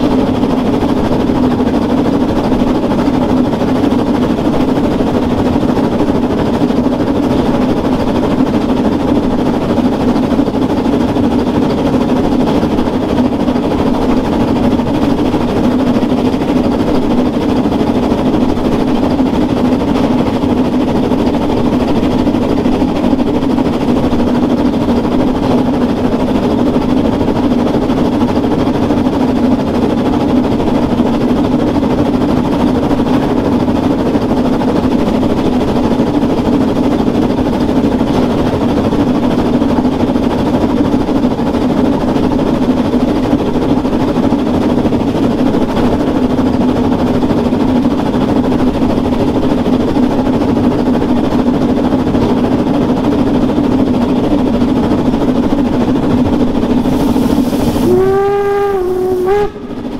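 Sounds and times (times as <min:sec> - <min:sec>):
train wheels clattering on rails: 0:00.0 - 0:58.1
steam engine working: 0:00.0 - 0:59.9.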